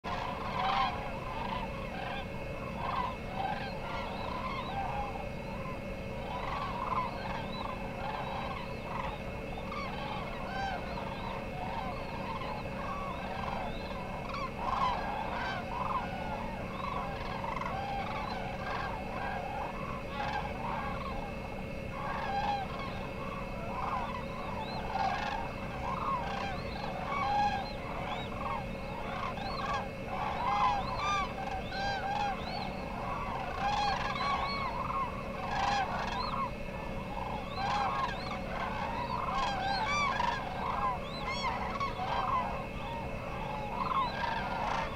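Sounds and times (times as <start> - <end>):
flock of waterbirds calling: 0.0 - 44.9.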